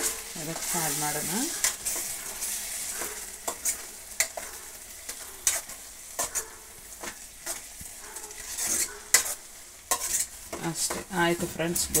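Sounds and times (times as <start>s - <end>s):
soft sizzle of frying: 0.0s - 12.0s
spatula scraping a pan: 0.0s - 12.0s.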